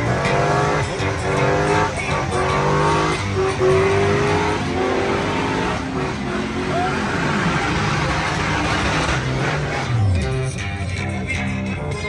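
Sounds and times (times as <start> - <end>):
engine revving hard: 0.0 - 10.4
tires squealing: 0.0 - 10.5.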